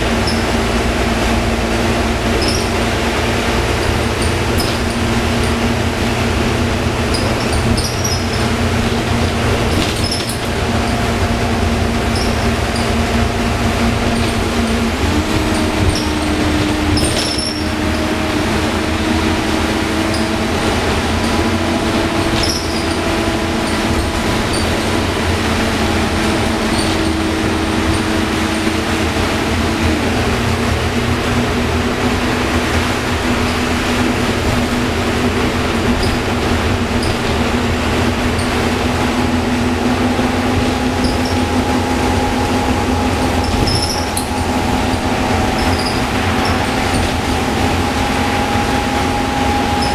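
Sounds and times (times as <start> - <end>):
bus diesel engine: 0.0 - 49.9.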